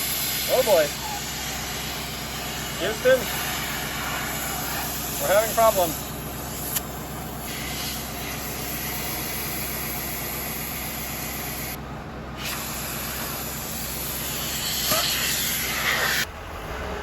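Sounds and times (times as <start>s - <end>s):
loud hiss: 0.0s - 11.8s, 12.4s - 16.3s
car engine running: 0.0s - 16.6s.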